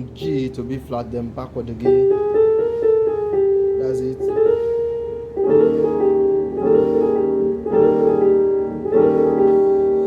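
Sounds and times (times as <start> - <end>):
piano chords: 0.0 - 10.0.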